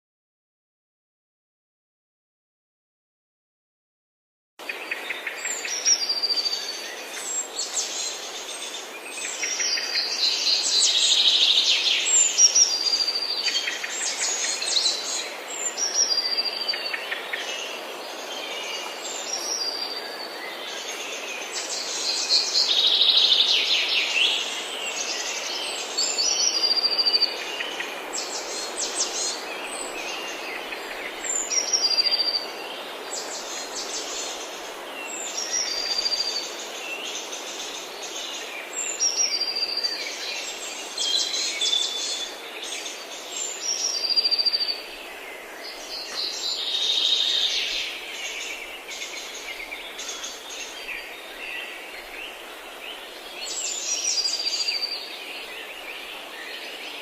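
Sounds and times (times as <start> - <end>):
faint steady hiss: 4.6 - 57.0.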